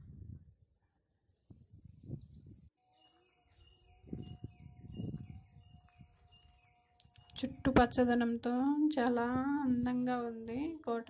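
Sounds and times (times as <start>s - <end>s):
birds chirping: 0.7s - 11.0s.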